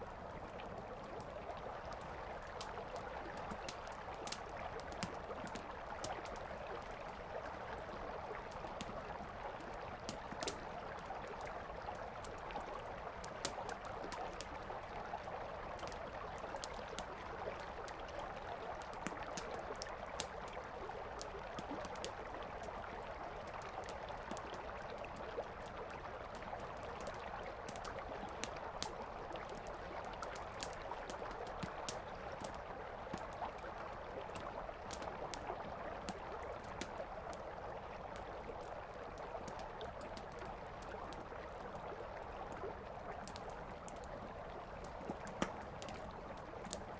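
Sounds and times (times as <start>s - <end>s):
river flowing: 0.0s - 46.9s
campfire crackling and popping: 0.6s - 18.0s, 21.2s - 46.9s.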